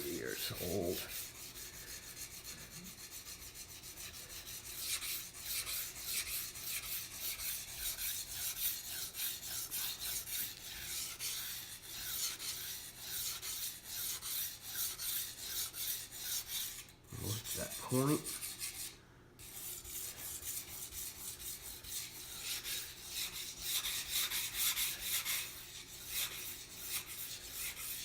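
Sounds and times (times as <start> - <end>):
knife scraping on whetstone: 0.0 - 28.0.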